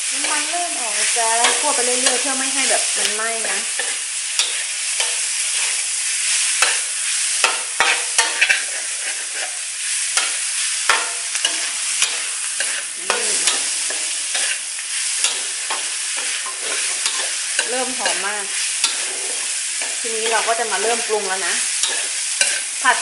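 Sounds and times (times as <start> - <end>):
meat sizzling in hot oil: 0.0 - 23.0
metal spatula scraping wok: 0.1 - 23.0.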